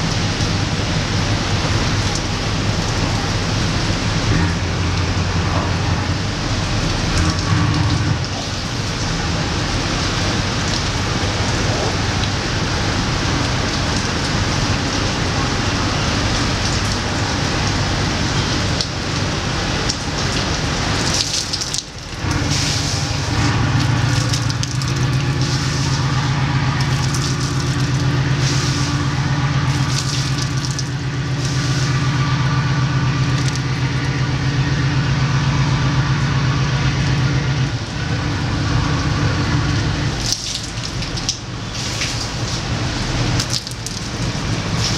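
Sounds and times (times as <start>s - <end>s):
boat engine low hum: 0.0s - 44.9s
rain hissing on boat deck: 0.0s - 44.9s.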